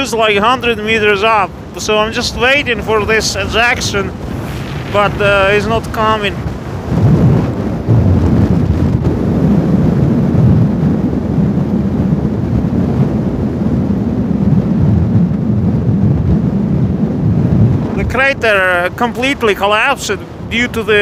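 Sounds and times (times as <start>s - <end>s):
lava fountain rumble: 0.0s - 21.0s.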